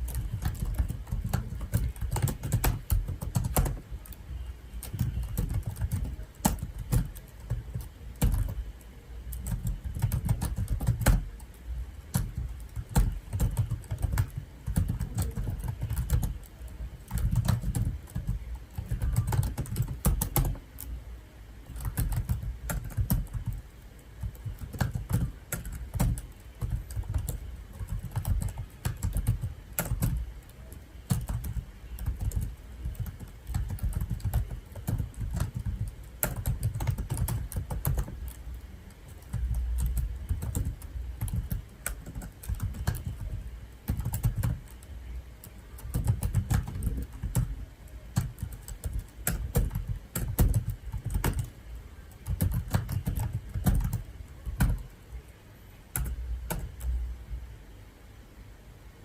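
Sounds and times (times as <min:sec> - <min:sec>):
computer keyboard typing: 0:00.0 - 0:21.0, 0:21.6 - 0:55.3, 0:55.9 - 0:57.0.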